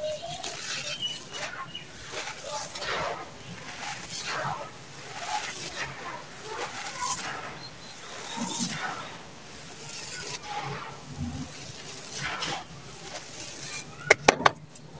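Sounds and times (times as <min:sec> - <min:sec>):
hands scooping gritty sand: 0:00.0 - 0:14.1.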